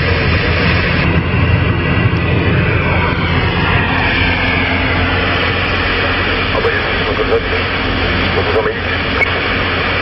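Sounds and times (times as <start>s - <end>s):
truck engine drone: 0.0s - 10.0s.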